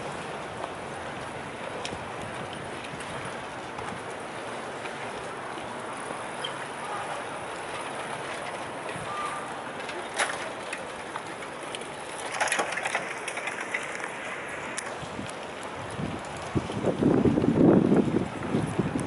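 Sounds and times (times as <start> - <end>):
distant traffic hum: 0.0 - 17.0.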